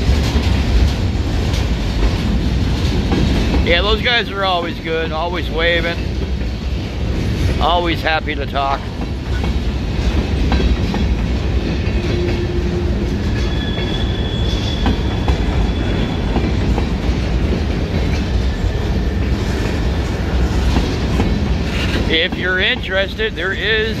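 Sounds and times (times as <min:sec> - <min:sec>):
freight train rumbling past: 0:00.0 - 0:24.0
wheels clicking over rail joints: 0:00.0 - 0:24.0.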